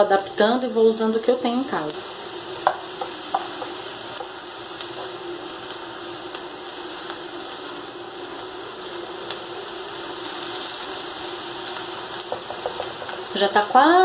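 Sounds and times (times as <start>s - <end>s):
onion sizzling in a frying pan: 0.0s - 14.0s.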